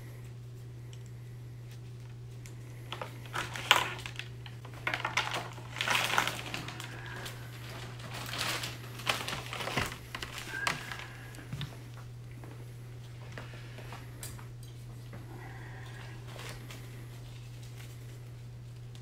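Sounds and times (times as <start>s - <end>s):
steady low hum: 0.0s - 19.0s
plastic wrapping crinkling: 1.7s - 14.8s, 15.8s - 19.0s.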